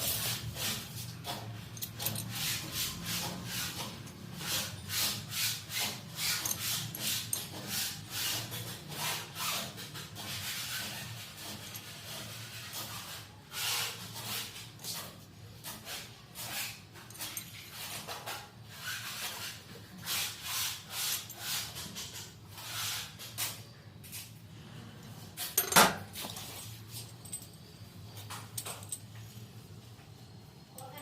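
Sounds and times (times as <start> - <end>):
metal fittings and tools scraping: 0.0 - 24.4, 25.0 - 29.4.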